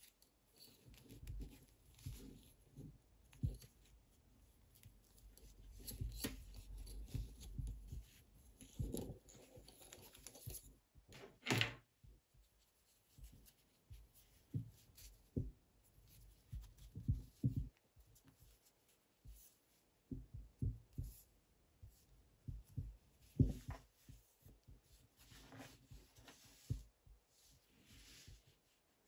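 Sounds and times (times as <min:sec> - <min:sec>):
knitting needles tapping: 0:00.0 - 0:11.2, 0:13.1 - 0:18.6, 0:19.2 - 0:27.0.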